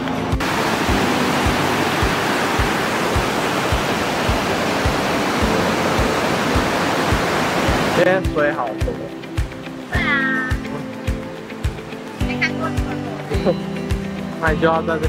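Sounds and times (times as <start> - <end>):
river water rushing: 0.0 - 14.4
background music with a beat: 0.0 - 15.0.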